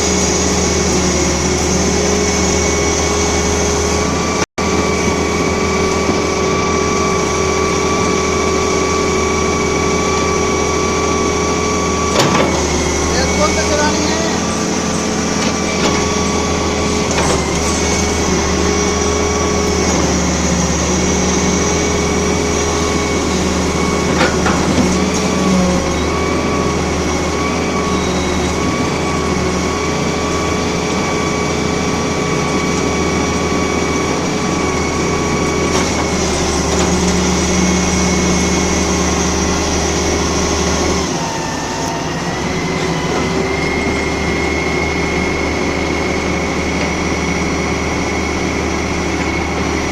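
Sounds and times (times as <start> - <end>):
excavator diesel rumble: 0.0 - 49.9.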